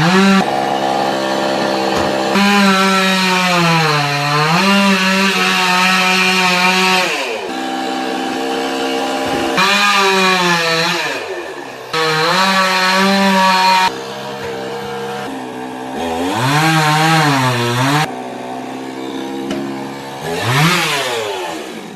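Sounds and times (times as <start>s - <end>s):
chainsaw engine revving: 0.0s - 21.9s.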